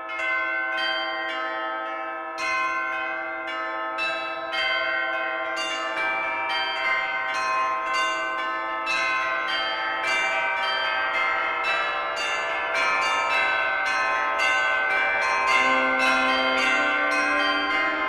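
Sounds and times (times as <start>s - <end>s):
church bells ringing in a peal: 0.0s - 18.0s.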